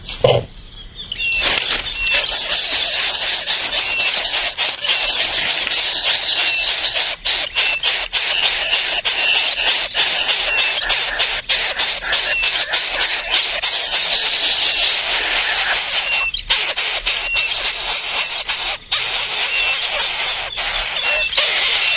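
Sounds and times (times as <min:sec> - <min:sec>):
insects chirring: 0:00.0 - 0:21.9
high falling peeps: 0:00.2 - 0:21.9.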